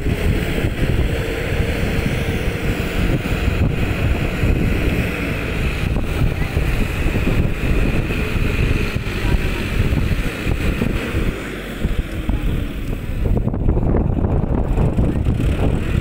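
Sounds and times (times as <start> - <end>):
tractor diesel engine running: 0.0 - 16.0
wind buffeting microphone: 0.0 - 16.0.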